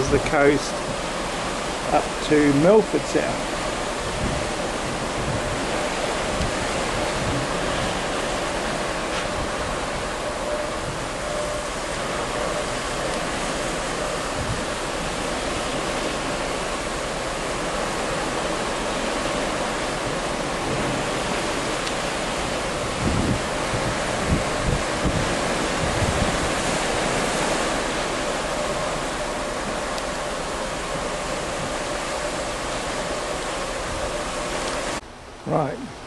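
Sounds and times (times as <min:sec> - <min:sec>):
wind buffeting microphone: 0:00.0 - 0:35.0
wind and sea rushing: 0:00.0 - 0:36.0.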